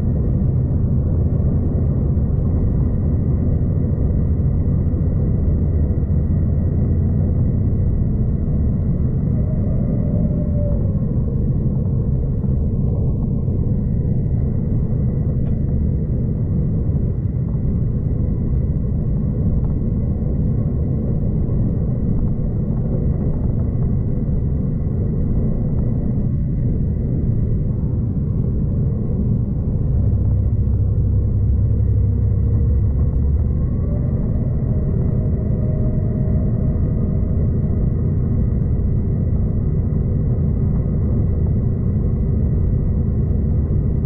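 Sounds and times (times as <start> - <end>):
faint high-pitched whine: 0.0 - 44.0
train rumbling on track: 0.0 - 44.0.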